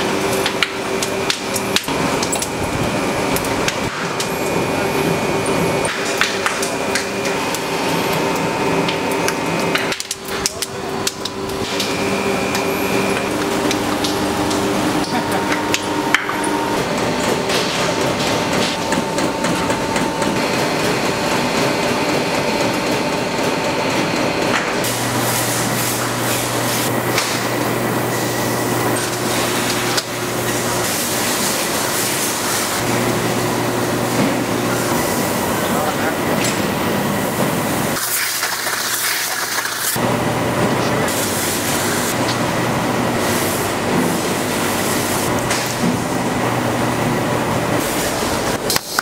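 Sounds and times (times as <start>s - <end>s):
factory machinery humming: 0.0s - 49.0s.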